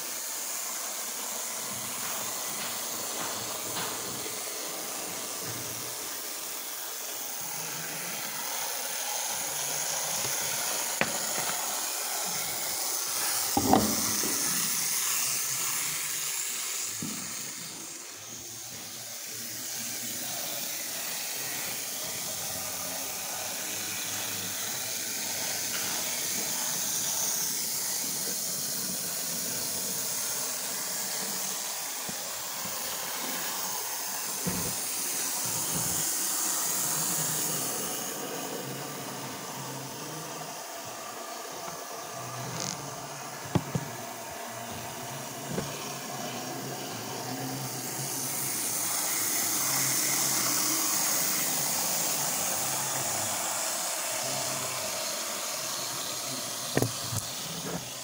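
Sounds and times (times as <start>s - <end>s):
model train motors whirring: 0.0s - 58.0s.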